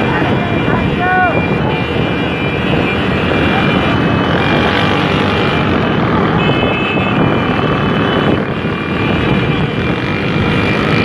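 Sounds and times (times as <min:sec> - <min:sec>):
motorcycle engines running: 0:00.0 - 0:11.0
wind on microphone: 0:00.0 - 0:11.0.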